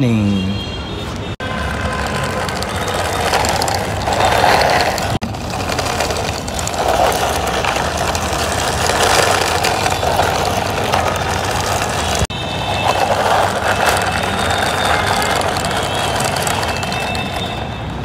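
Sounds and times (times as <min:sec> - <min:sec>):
plastic toy wheels rolling on concrete: 0:01.4 - 0:18.0.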